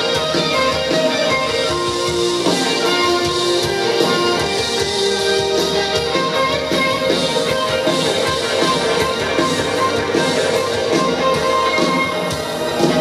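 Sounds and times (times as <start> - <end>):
drums: 0.0 - 13.0
electric guitar: 0.0 - 13.0
live rock band playing: 0.0 - 13.0.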